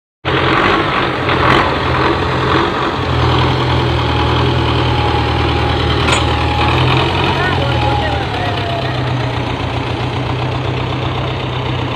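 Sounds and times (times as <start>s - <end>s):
tractor diesel engine idling: 0.3s - 11.9s.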